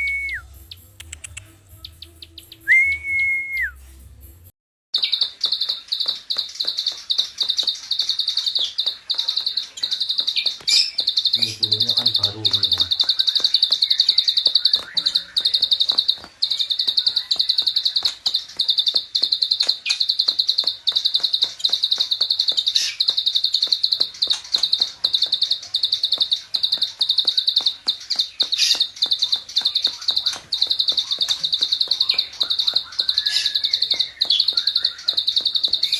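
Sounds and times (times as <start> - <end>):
bird rapid clicking call: 0.9 - 1.5, 5.0 - 35.9
other bird notes: 5.0 - 35.9.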